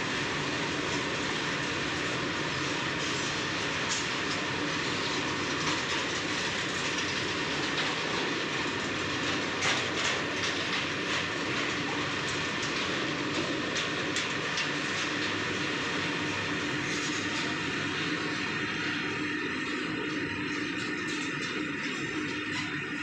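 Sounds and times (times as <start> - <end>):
freight train rumbling past: 0.0 - 22.6.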